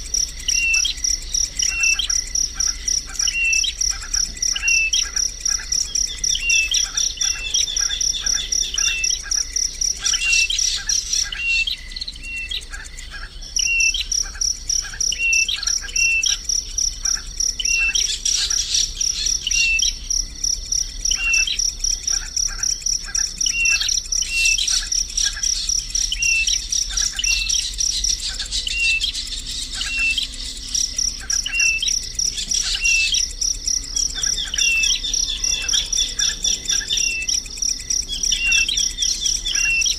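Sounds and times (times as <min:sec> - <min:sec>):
birds chirping: 0:00.0 - 0:39.9
cricket trilling: 0:00.0 - 0:39.9.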